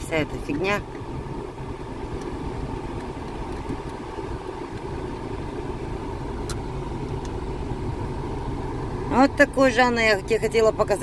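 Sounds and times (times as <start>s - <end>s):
air-conditioning fan blowing: 0.0s - 11.0s
car engine idling: 0.0s - 11.0s.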